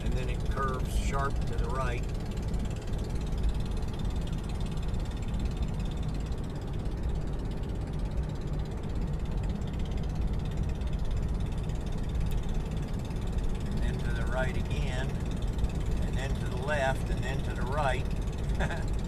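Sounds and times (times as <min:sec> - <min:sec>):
car engine rumble from inside: 0:00.0 - 0:19.0.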